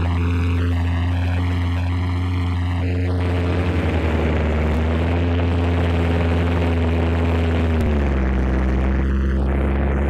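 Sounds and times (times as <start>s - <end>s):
model plane engine in flight: 0.0s - 10.0s.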